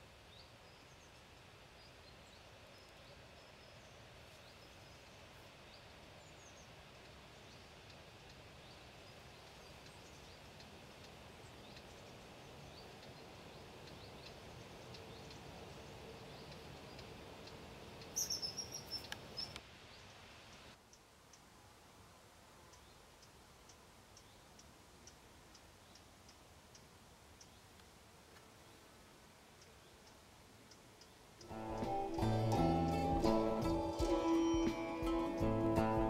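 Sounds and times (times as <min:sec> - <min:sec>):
faint outdoor background noise: 0:00.0 - 0:36.0.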